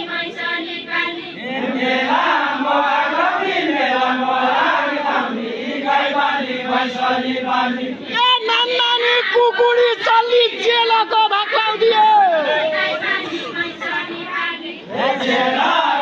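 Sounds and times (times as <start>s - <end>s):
group singing folk song in unison: 0.0s - 16.0s.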